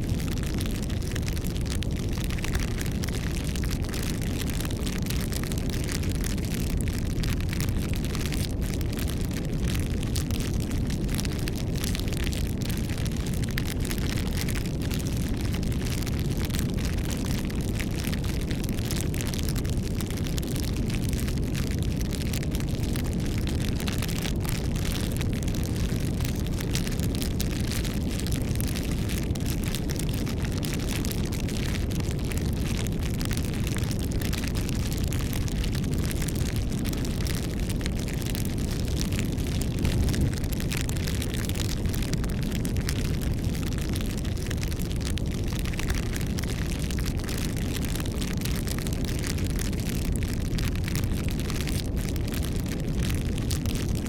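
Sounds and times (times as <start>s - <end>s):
fire crackles and pops: 0.0s - 54.0s
low rush of flame: 0.0s - 54.0s.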